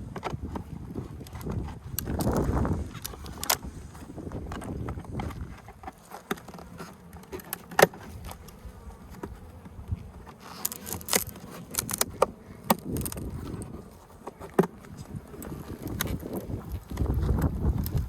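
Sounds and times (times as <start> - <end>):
honeybees buzzing: 0.4 - 18.0.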